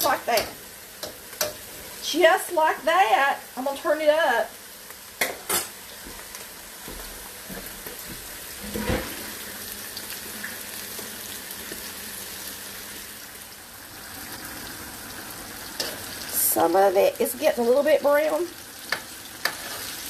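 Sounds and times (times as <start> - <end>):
battered pieces frying in oil: 0.0 - 20.0.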